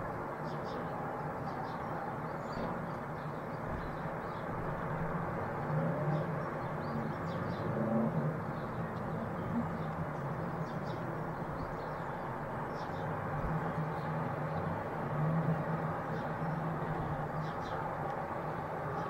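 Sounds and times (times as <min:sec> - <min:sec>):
small birds chirping: 0:00.4 - 0:15.0, 0:15.6 - 0:19.0.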